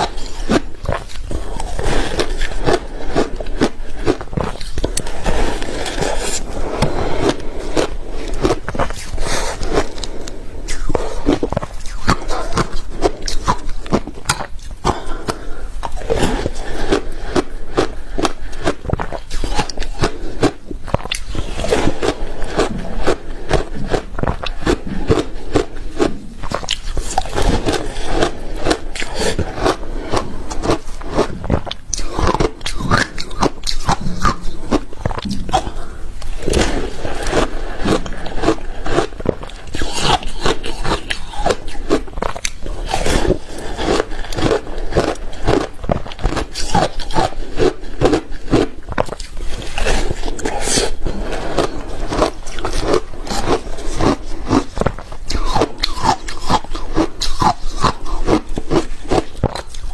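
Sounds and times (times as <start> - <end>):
ice crunching while chewed: 0.0 - 59.9.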